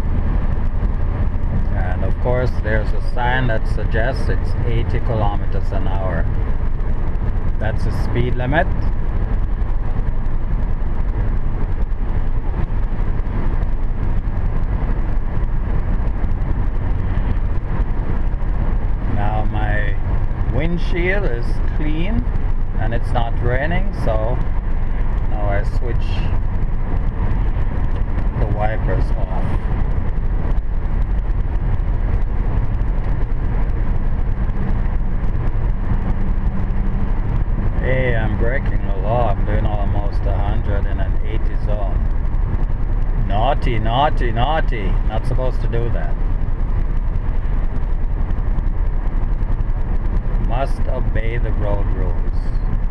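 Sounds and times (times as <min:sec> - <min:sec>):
car engine low hum: 0:00.0 - 0:52.9
road noise rumble: 0:00.0 - 0:52.9.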